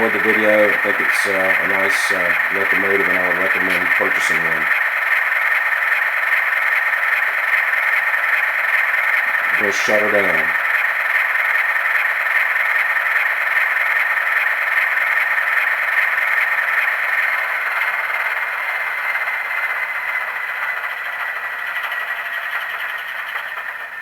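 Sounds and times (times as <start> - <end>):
model locomotive diesel engine sound: 0.0 - 24.0.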